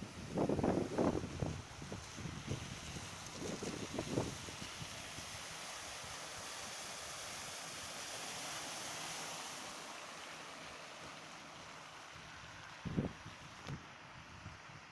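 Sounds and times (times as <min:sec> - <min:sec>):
tyres hissing on wet asphalt: 0:00.0 - 0:14.9.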